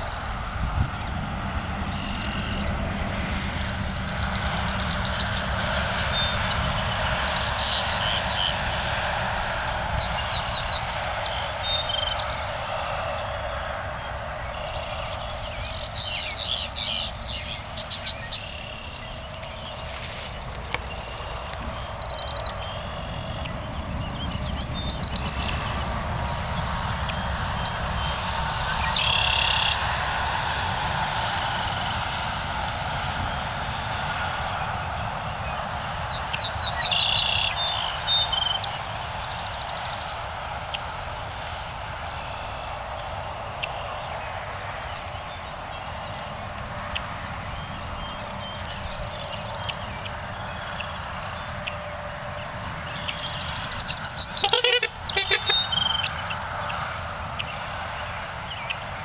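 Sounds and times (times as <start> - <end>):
small birds chirping and trilling: 1.9 - 8.7, 9.8 - 29.8, 35.4 - 39.7, 42.1 - 59.0.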